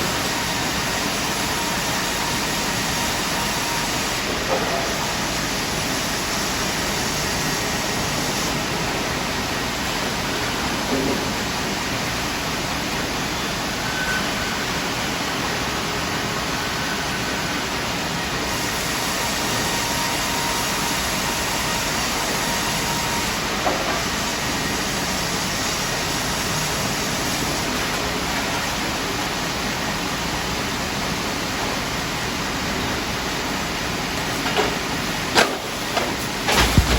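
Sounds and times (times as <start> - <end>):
band sawmill running: 0.0 - 36.9.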